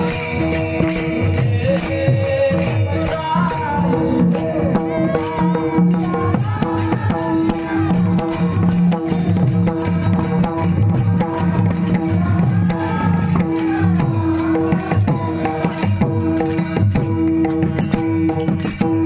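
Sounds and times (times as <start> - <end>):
hand drum beat: 0.0 - 19.0
jingling percussion: 0.0 - 19.0.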